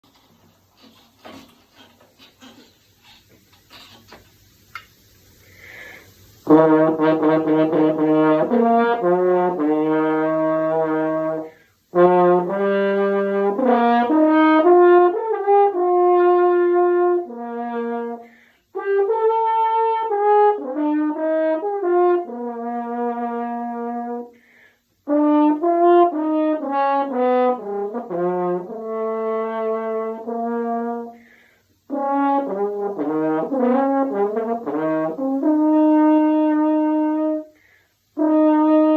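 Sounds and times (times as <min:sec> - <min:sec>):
solo french horn melody: 0:06.3 - 0:38.9.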